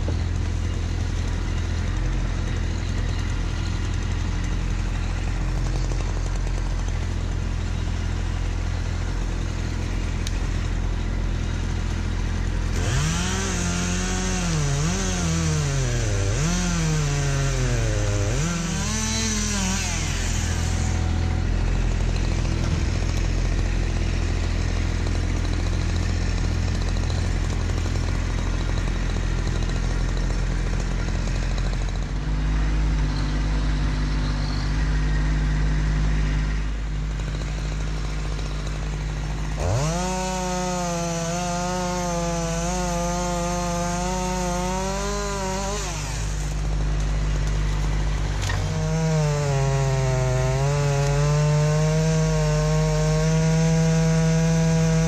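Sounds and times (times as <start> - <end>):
small engine revving: 0.0 - 55.0
tractor diesel engine running: 0.0 - 55.0.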